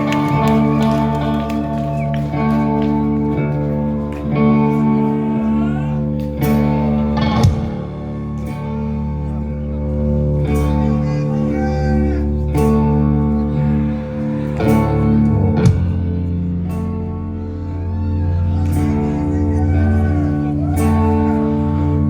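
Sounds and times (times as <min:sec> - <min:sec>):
electric guitar chords: 0:00.0 - 0:22.0
rock band playing live: 0:00.0 - 0:22.0.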